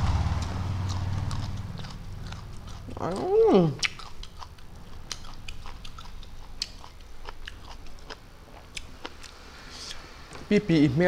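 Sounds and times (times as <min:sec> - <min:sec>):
chewing and mouth smacking: 0:00.4 - 0:10.0.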